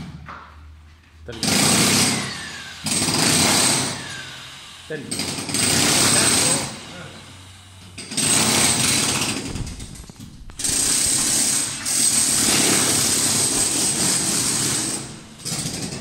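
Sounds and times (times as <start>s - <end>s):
demolition hammer chiselling tiles: 1.3s - 4.3s, 5.1s - 6.9s, 7.9s - 16.0s.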